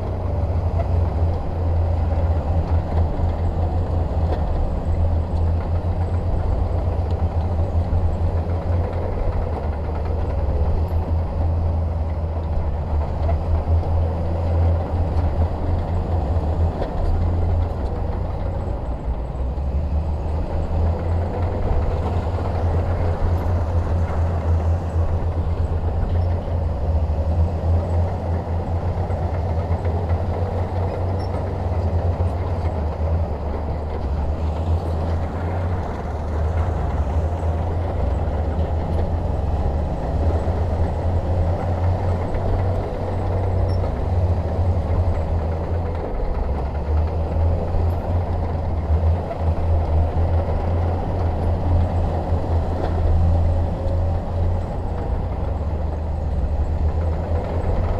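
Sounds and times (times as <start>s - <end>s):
bulldozer engine droning: 0.0s - 57.9s.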